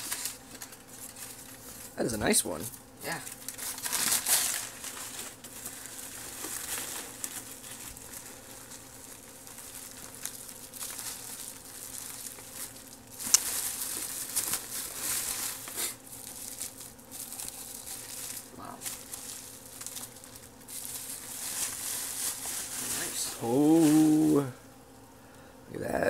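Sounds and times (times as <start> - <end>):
bubble wrap crinkling: 0.0 - 24.6
faint steady hum: 0.0 - 26.0
sharp crackle: 3.1 - 24.5.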